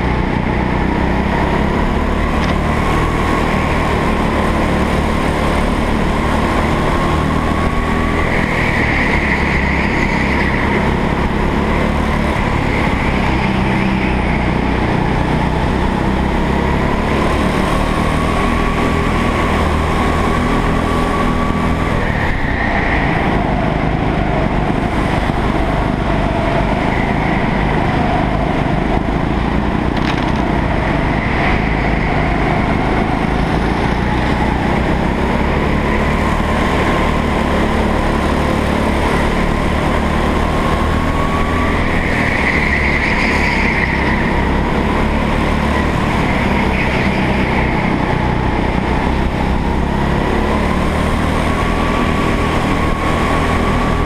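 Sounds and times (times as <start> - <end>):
go-kart engine running hard: 0.0 - 54.0.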